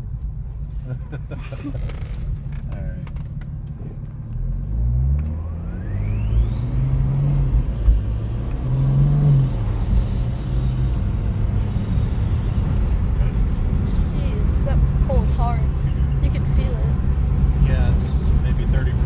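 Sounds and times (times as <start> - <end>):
diesel engine accelerating hard: 0.0 - 19.0.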